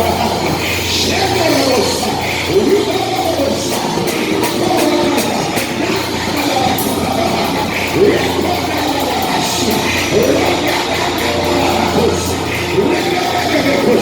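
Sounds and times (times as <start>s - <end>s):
church praise music with beat: 0.0s - 14.0s
voices singing and calling out: 0.0s - 14.0s.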